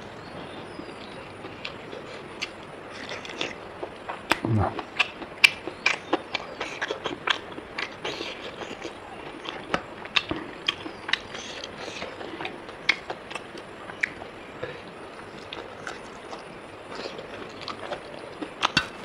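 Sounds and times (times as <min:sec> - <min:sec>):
person chewing food: 0:01.4 - 0:19.0.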